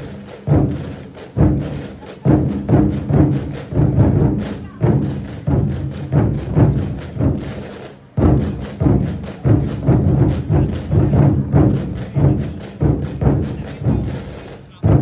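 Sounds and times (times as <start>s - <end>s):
barrel drums beaten together: 0.0s - 15.0s.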